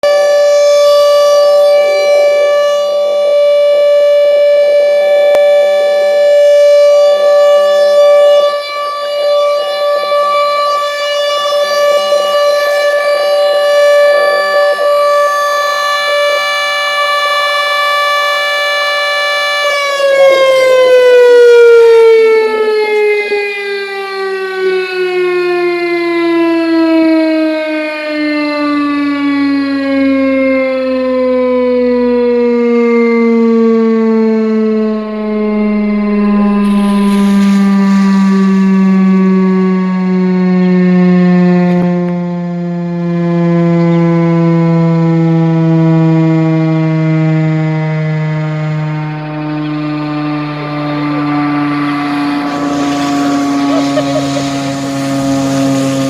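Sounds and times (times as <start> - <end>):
refinery siren steady tone: 0.0 - 56.0.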